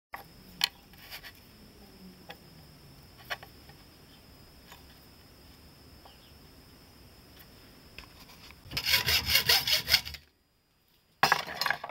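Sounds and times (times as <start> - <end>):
faint high hiss: 0.2 - 11.2.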